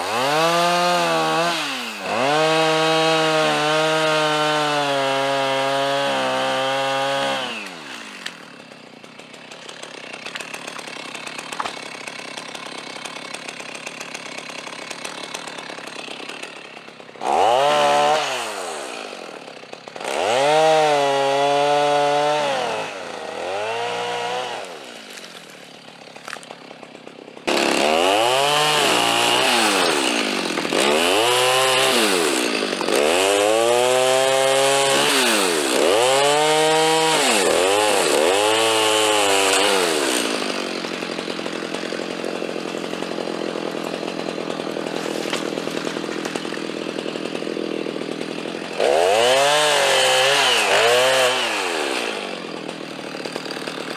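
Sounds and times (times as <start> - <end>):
chainsaw revving and idling: 0.0 - 53.9.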